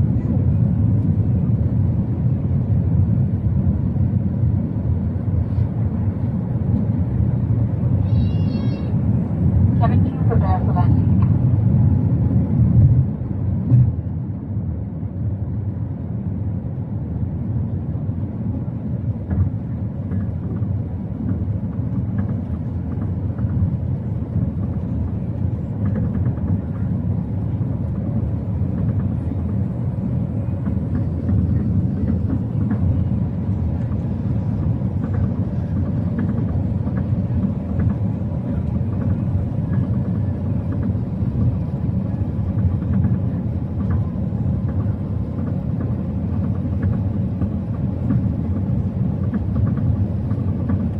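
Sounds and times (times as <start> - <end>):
airliner cabin rumble: 0.0 - 50.9.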